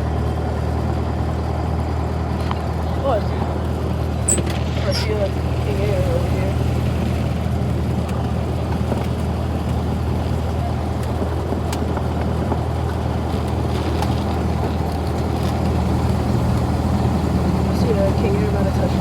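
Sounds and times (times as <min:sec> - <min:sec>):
airplane engine drone in cabin: 0:00.0 - 0:19.0.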